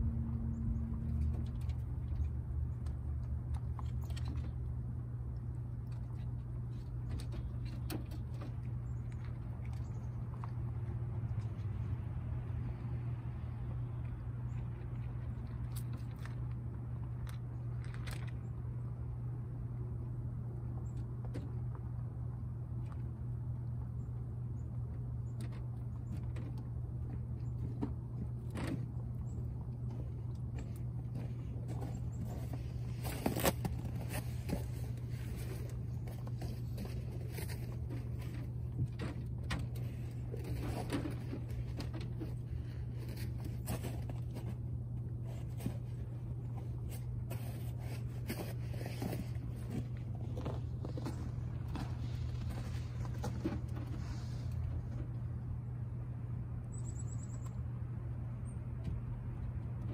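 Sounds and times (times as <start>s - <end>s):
rabbits clicking and scuffling: 0.0s - 55.8s
steady low hum: 0.0s - 59.9s.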